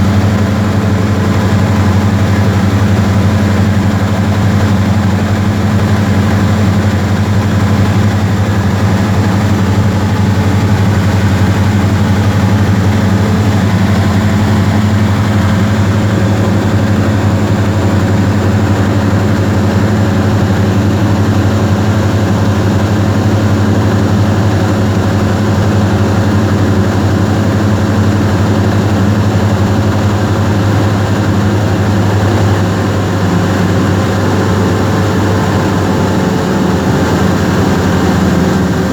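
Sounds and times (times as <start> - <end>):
airflow noise: 0.0 - 38.9
airplane engine and propeller droning: 0.0 - 38.9.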